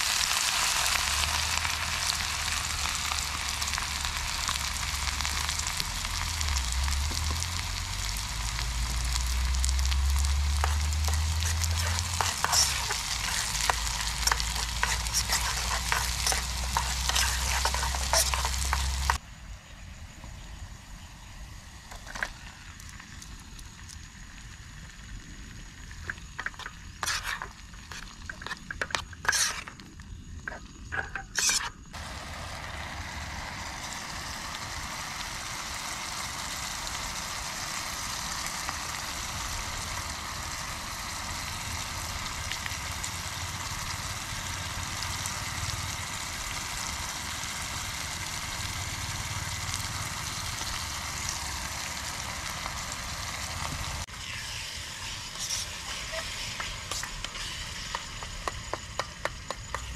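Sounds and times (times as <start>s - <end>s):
food sizzling in a pan: 0.0s - 19.2s, 19.8s - 29.8s, 30.4s - 59.9s.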